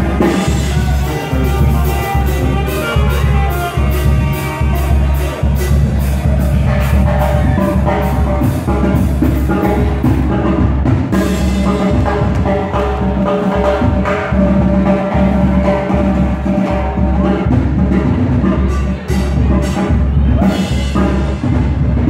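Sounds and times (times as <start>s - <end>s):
drums keeping a dance beat: 0.0s - 22.0s
live band music: 0.0s - 22.0s
sousaphone bass: 0.0s - 22.0s.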